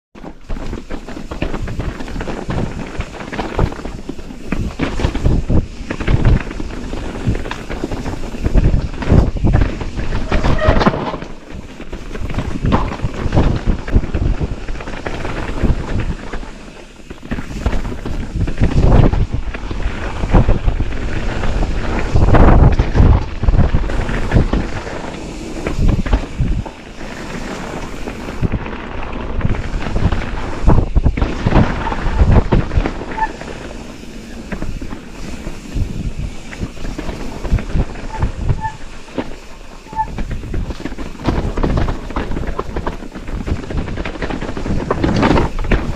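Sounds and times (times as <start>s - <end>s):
bike knocking and rumbling on trail: 0.1s - 45.9s
wind rushing over microphone: 0.2s - 45.9s.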